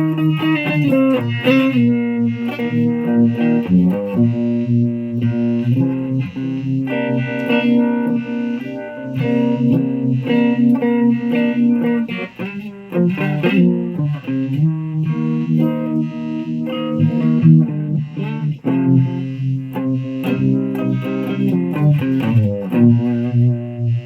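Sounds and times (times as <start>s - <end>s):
fuzz electric guitar: 0.0s - 24.0s.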